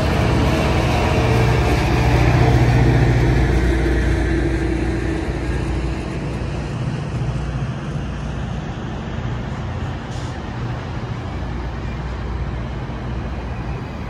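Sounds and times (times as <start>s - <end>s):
diesel train rumbling past: 0.0s - 14.0s.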